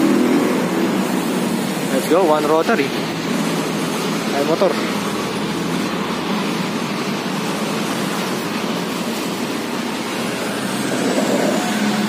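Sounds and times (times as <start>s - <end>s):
road and traffic noise: 0.0s - 12.0s.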